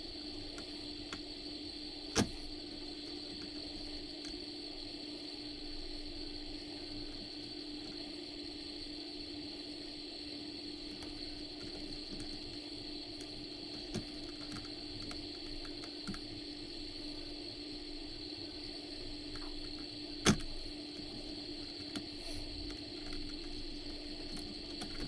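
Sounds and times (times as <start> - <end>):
hot air blower hissing: 0.0 - 25.0.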